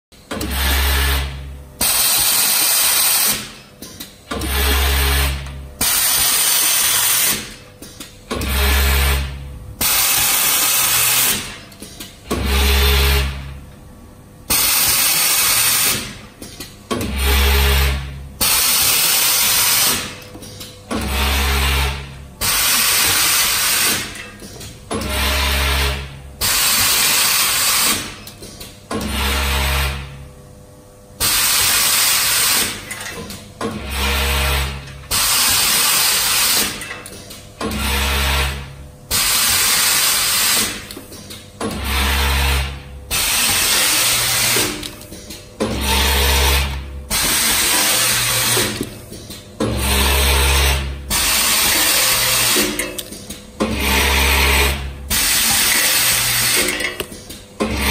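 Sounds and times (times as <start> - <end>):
machine whirring with deep hum: 0.2 - 57.9.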